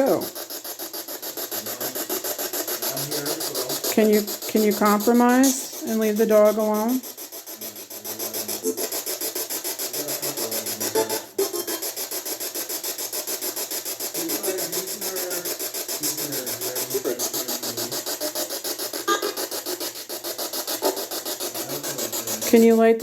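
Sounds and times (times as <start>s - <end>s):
scratchy pulsing electronic hiss: 0.0s - 23.0s.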